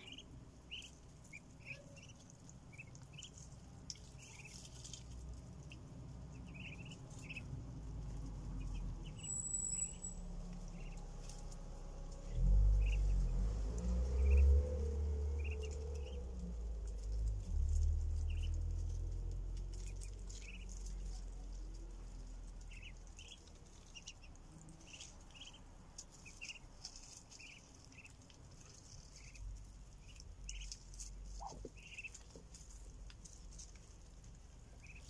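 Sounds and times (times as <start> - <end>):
bills pecking at grain: 0.0 - 35.0
ducklings peeping: 0.0 - 35.0
low rumble: 0.0 - 35.0.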